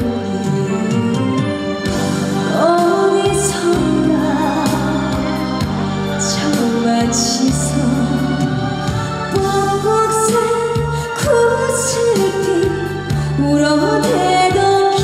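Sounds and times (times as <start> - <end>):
woman singing long wavering notes: 0.0 - 15.0.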